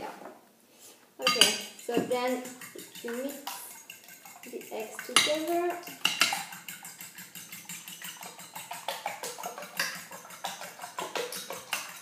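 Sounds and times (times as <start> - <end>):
fork clicking against bowl: 1.3 - 12.0.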